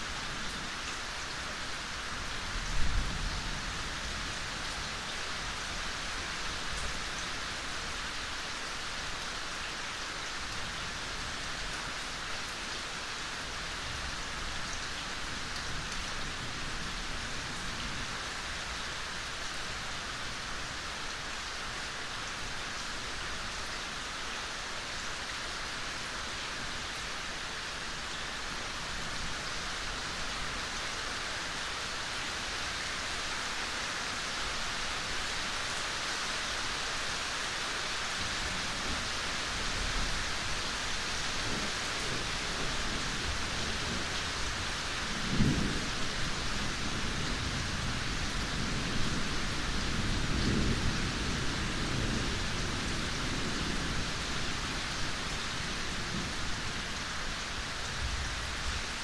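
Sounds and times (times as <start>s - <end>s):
rain falling in forest: 0.0s - 59.0s.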